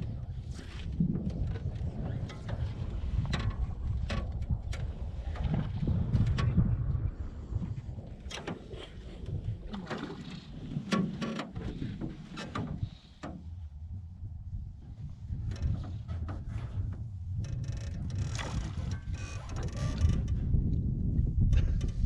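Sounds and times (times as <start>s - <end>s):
light knocks and clicks from boat: 0.0s - 22.0s
wind rumbling on microphone: 0.0s - 22.0s.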